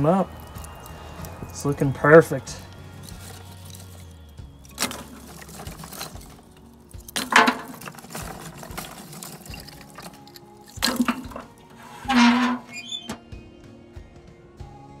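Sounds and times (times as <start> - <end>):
wood sticks clattering onto charcoal: 0.0 - 13.2.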